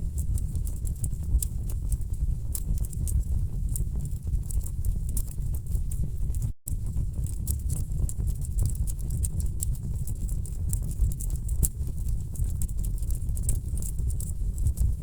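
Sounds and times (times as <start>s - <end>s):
logs crackling in a fireplace: 0.1s - 15.0s.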